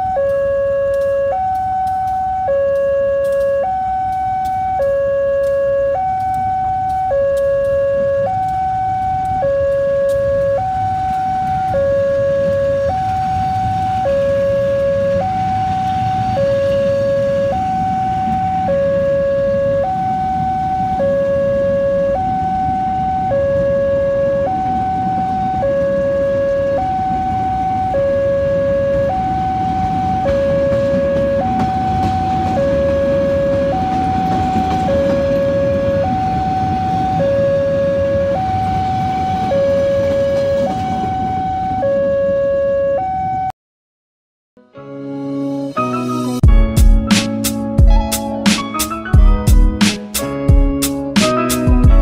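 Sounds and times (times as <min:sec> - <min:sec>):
railway warning alarm: 0:00.0 - 0:43.5, 0:46.5 - 0:52.0.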